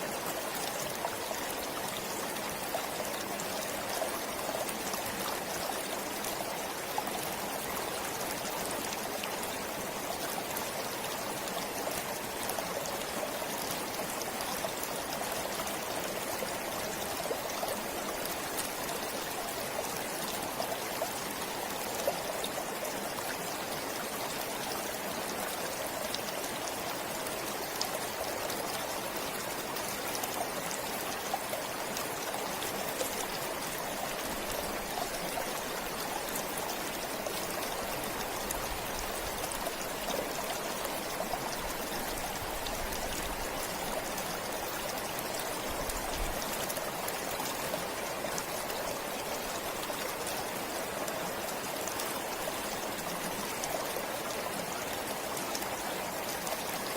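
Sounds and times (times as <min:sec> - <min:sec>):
stream trickling: 0:00.0 - 0:56.9.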